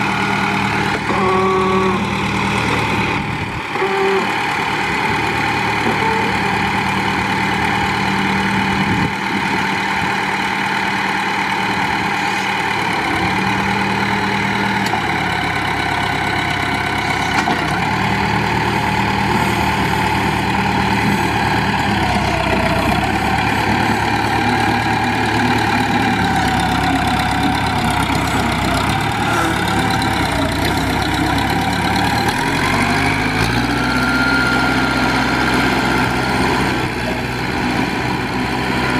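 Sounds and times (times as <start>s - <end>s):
backhoe engine idling: 0.0s - 38.9s.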